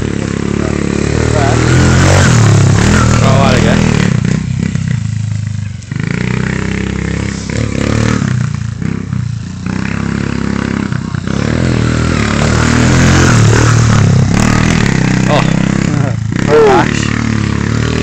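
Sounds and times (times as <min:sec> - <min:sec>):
small motorcycle engine revving: 0:00.0 - 0:18.0.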